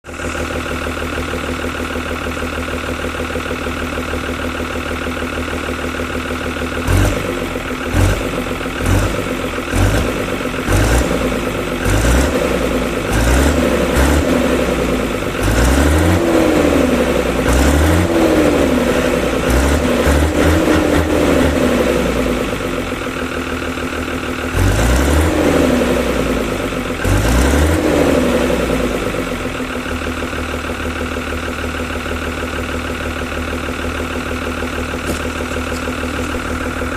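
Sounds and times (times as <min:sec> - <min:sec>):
tractor diesel engine idling and revving: 0:00.0 - 0:36.9.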